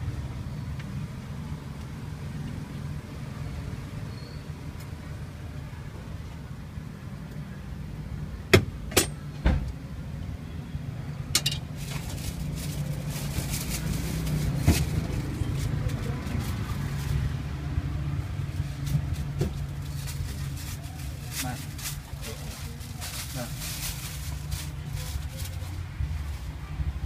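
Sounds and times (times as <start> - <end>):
low rumble of street traffic: 0.0 - 27.0.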